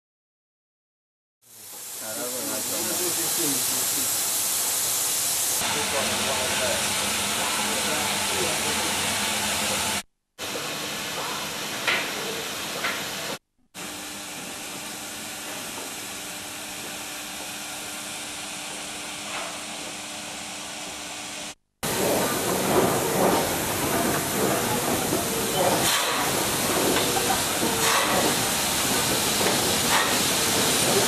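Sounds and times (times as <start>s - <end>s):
steam hissing: 1.4s - 19.6s, 21.8s - 31.0s.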